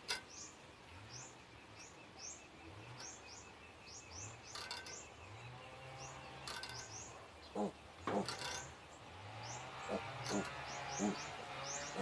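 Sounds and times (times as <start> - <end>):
rustles: 0.0 - 12.0
small birds chirping: 0.0 - 12.0.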